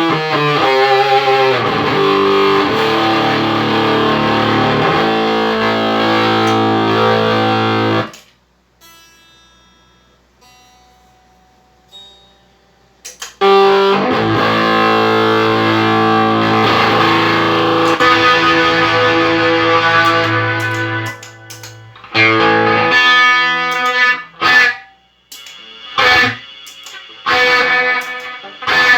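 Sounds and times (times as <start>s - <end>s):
distorted electric guitar chords: 0.0s - 8.2s, 13.1s - 28.9s
ringing single guitar notes: 0.0s - 8.2s, 8.8s - 28.9s.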